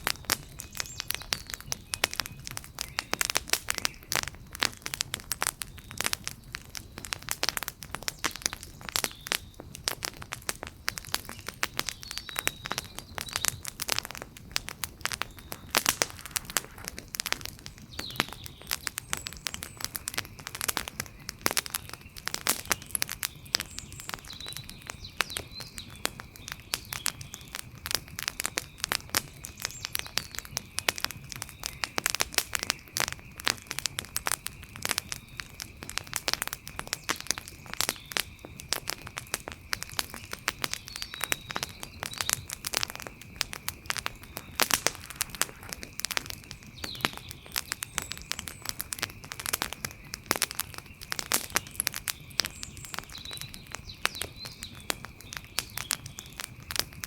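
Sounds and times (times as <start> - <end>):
burning wood popping: 0.0 - 57.0
wood fire crackling: 0.0 - 57.0.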